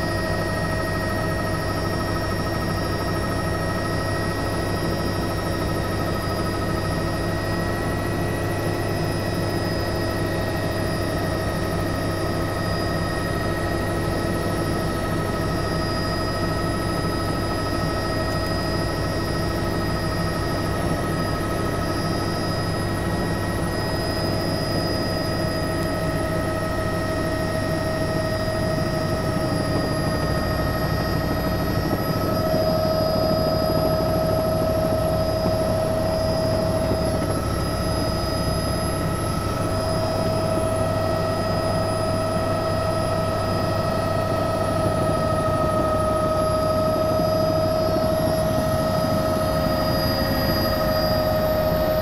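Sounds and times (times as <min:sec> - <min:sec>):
helicopter rotor and engine noise: 0:00.0 - 0:52.0
high turbine whine: 0:00.0 - 0:52.0.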